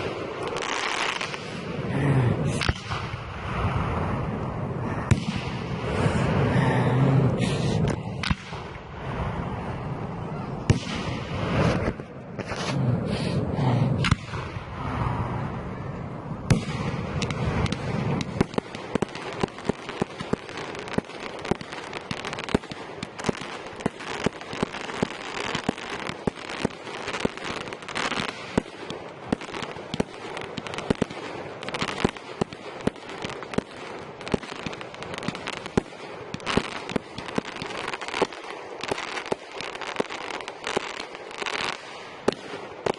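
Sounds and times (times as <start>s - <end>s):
fireworks crackling pops: 0.0s - 6.6s, 7.4s - 9.2s, 10.2s - 15.4s, 16.4s - 42.9s
fireworks booms and rumbling: 0.0s - 42.9s.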